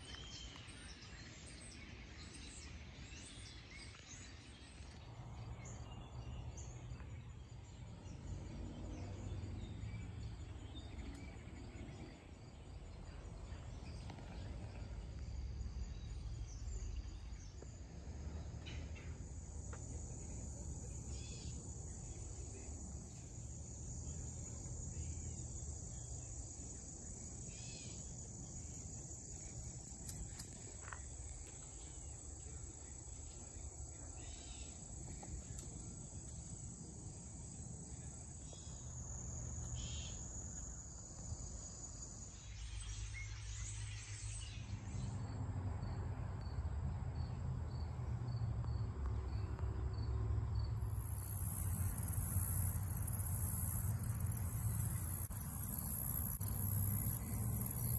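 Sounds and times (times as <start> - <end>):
insects chirring trill: 0.0 - 46.6, 47.2 - 57.9.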